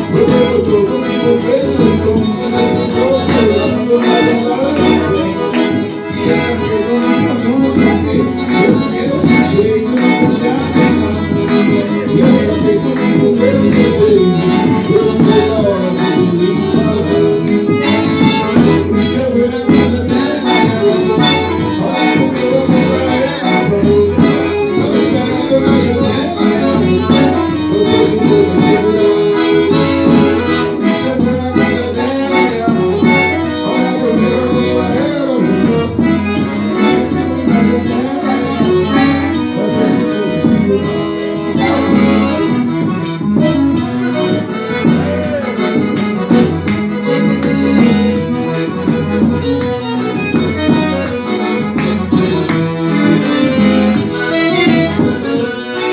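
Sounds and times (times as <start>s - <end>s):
fast bright high percussion: 0.0s - 18.9s, 19.7s - 55.9s
accordion melody: 0.0s - 55.9s.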